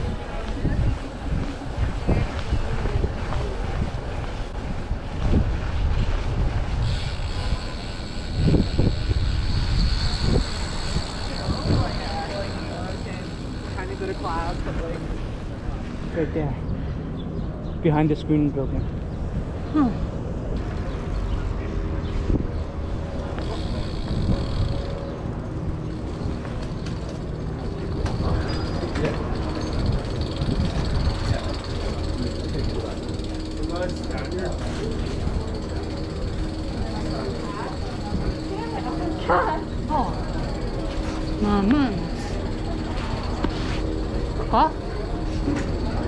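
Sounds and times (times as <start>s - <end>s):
wind buffeting microphone: 0.0s - 17.8s, 18.8s - 44.4s
low rumble of city traffic: 0.0s - 46.0s.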